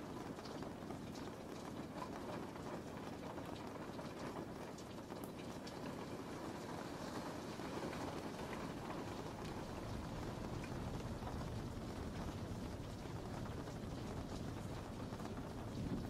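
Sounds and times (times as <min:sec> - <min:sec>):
steady rain hiss: 0:00.0 - 0:16.0
raindrop ticks: 0:00.1 - 0:16.0.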